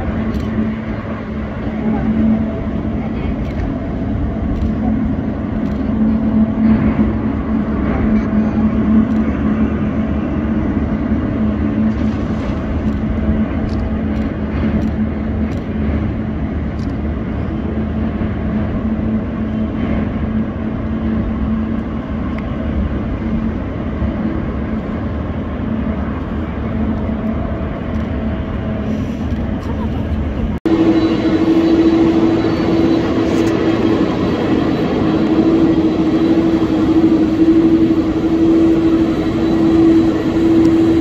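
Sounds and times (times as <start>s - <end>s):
jet engines idling: 0.0s - 41.0s.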